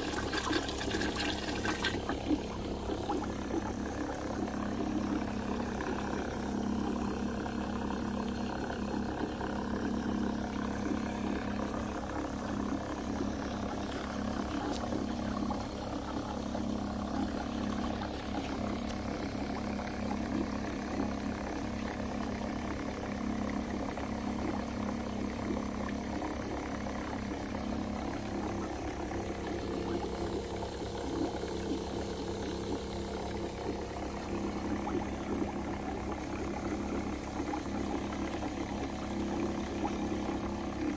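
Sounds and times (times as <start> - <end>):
pump humming: 0.0 - 40.9
water churning in bucket: 0.0 - 40.9.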